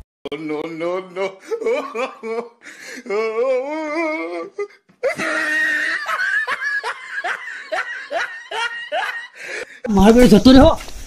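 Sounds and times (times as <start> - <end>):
person laughing: 0.4 - 9.9.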